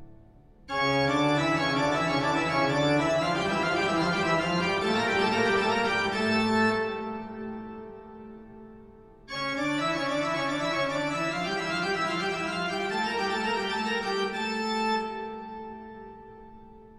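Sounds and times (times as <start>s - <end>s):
organ-like instrumental chords: 0.0s - 16.9s.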